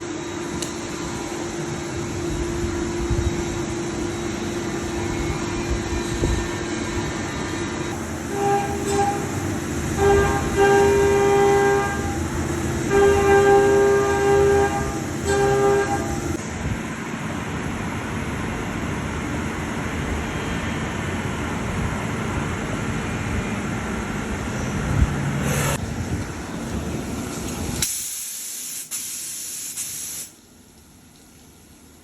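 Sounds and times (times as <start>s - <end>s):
milling machine whine: 0.0s - 27.8s.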